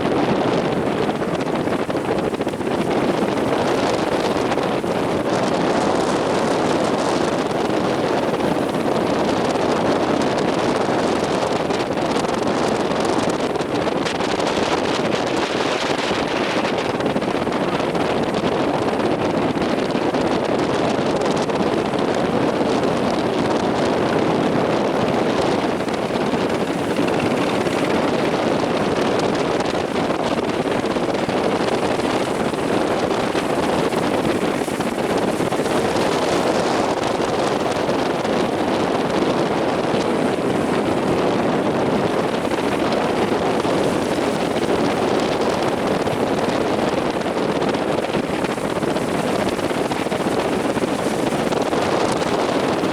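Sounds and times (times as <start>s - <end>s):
sea and surf rushing: 0.0s - 52.9s
wind buffeting microphone: 0.0s - 52.9s.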